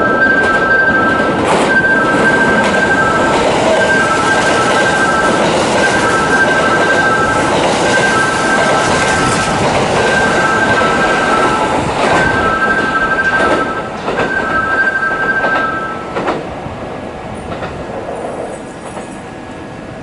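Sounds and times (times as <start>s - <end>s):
electric train running: 0.0s - 16.5s.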